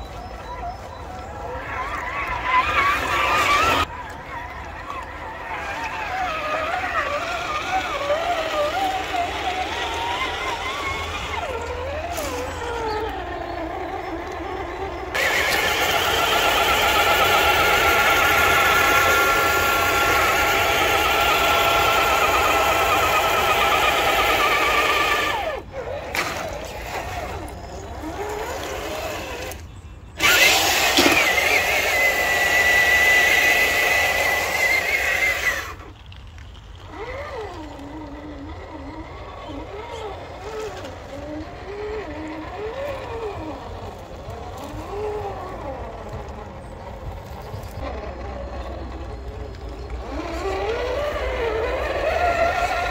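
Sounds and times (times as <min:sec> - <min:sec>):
electric motor and gearbox whining: 0:00.0 - 0:52.9.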